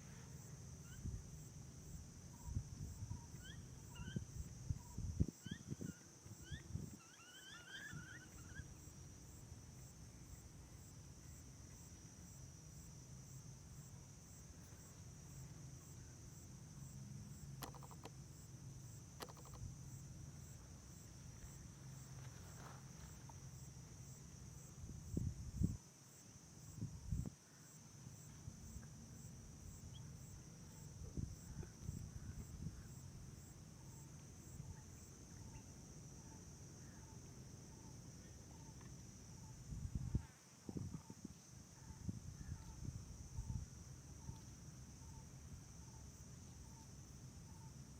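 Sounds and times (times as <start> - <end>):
insect chirring: 0.7 - 40.0.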